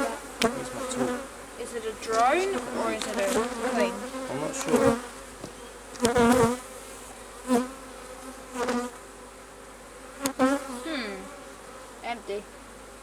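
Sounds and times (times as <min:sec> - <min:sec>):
bee flying past: 0:00.0 - 0:13.0
bees humming around hive: 0:00.0 - 0:13.0.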